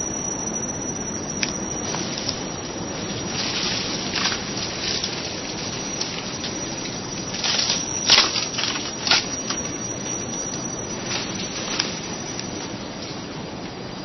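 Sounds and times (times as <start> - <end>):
heavy rain on forest: 1.4 - 13.8.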